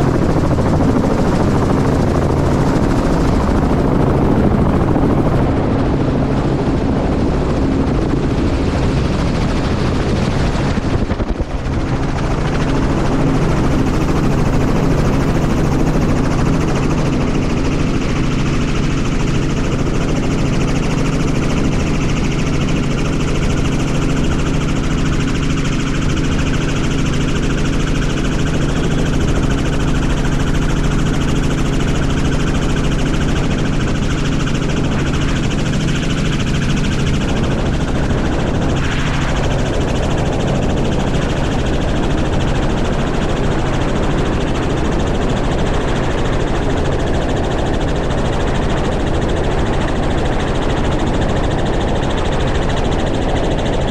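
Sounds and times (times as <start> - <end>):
helicopter turbine and rotor drone: 0.0 - 53.9.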